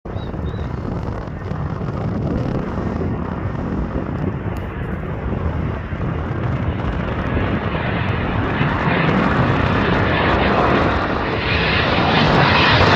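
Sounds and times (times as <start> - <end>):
faint jet engines: 0.1 - 12.9
wind buffeting microphone: 0.1 - 12.9.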